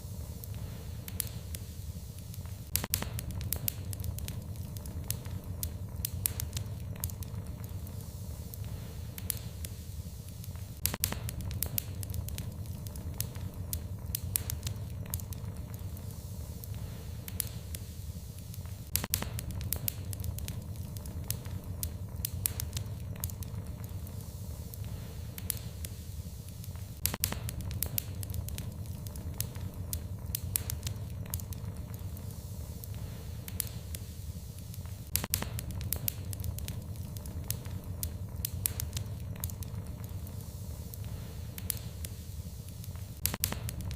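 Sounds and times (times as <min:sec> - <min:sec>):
low rumble of flame: 0:00.0 - 0:43.9
sharp fire pops: 0:00.0 - 0:43.9
wood fire crackling: 0:00.0 - 0:43.9.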